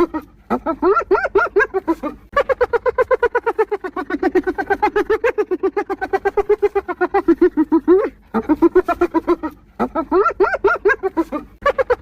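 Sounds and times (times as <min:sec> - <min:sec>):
hyena giggling: 0:00.0 - 0:12.0.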